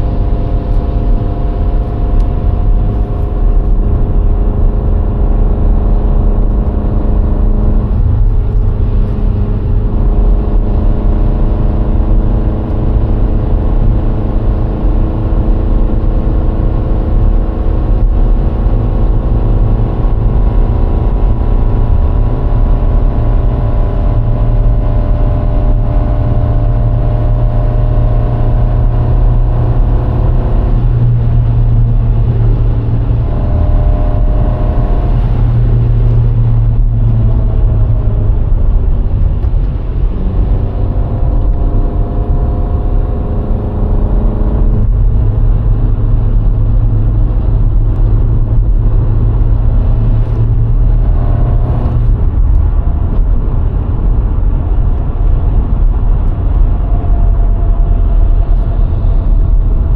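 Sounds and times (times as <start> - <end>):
car engine revving: 0.0 - 59.9
tyre road rumble: 0.0 - 59.9.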